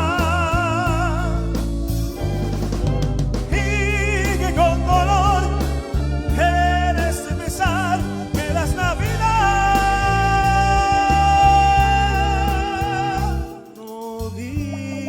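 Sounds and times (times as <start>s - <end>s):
person singing with vibrato: 0.0s - 1.7s, 3.5s - 15.0s
band accompaniment with bass: 0.0s - 15.0s.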